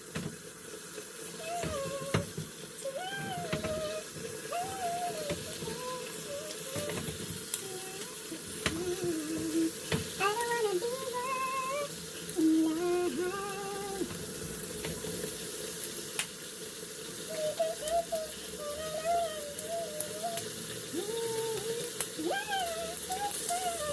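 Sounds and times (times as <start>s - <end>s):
oil popping: 0.0s - 23.9s
wings sizzling in hot oil: 0.0s - 23.9s.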